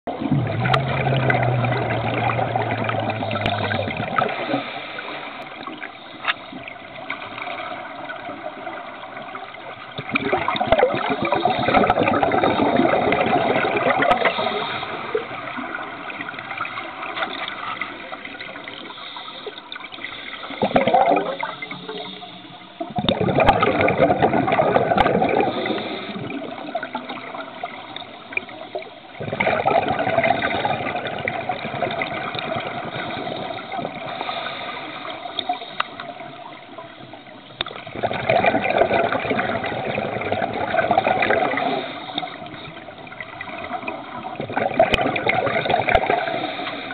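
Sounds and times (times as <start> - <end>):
underwater regulator exhaust bubbles: 0.0 - 46.9.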